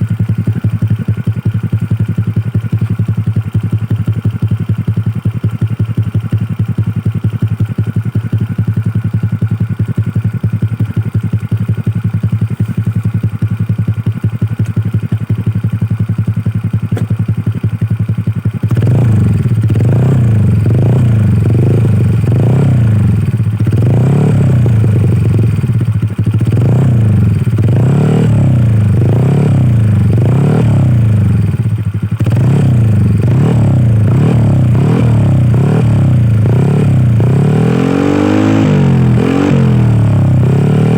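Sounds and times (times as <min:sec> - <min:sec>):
scooter engine idling and revving: 0:00.0 - 0:40.9.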